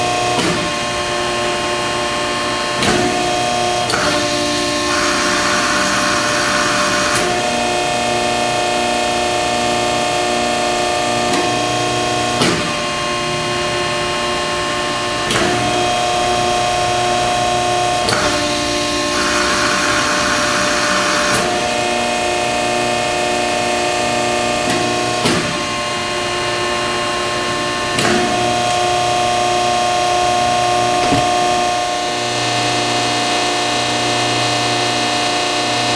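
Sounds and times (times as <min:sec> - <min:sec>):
hydraulic pump whine: 0:00.0 - 0:35.9.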